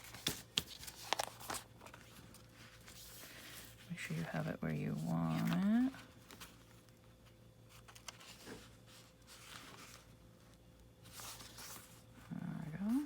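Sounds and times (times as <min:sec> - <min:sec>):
paper rustling: 0:00.0 - 0:12.2.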